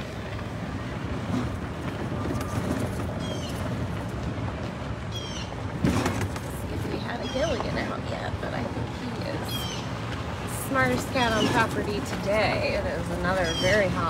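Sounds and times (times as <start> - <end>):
cart rumbling along a path: 0.0 - 14.0.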